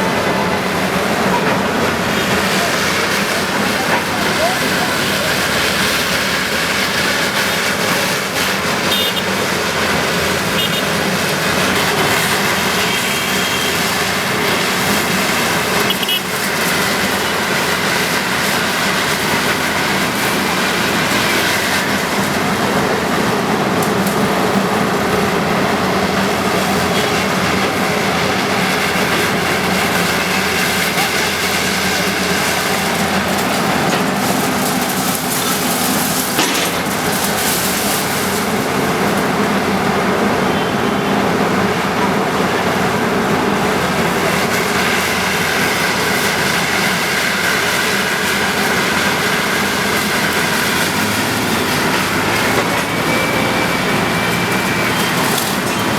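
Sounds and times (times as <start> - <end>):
crowd voices: 0.0 - 55.9
heavy machinery engine running: 0.0 - 55.9.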